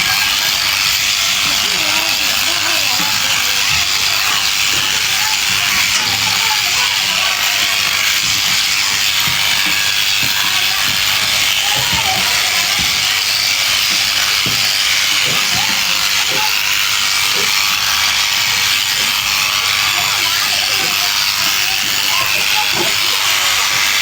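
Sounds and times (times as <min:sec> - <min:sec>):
electric shears buzzing: 0:00.0 - 0:24.0.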